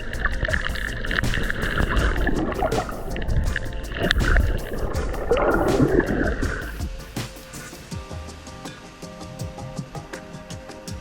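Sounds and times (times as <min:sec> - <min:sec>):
rushing gurgling sound: 0:00.0 - 0:09.4
background music: 0:00.0 - 0:11.0.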